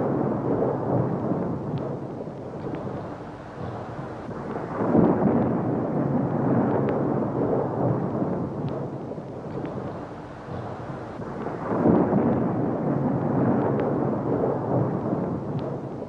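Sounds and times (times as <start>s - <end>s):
rain: 0.0s - 16.0s
thunder rumbling: 0.0s - 16.0s.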